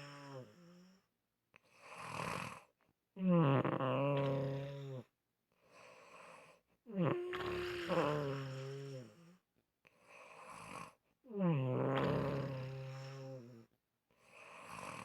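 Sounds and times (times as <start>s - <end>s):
droning snores: 0.0s - 1.1s, 1.7s - 5.1s, 5.7s - 9.4s, 10.0s - 15.0s.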